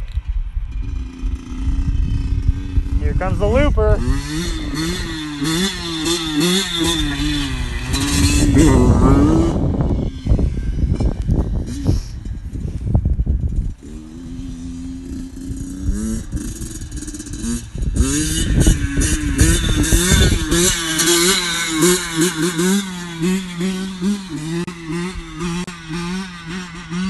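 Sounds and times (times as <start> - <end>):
motorcycle engine revving: 0.4 - 27.0.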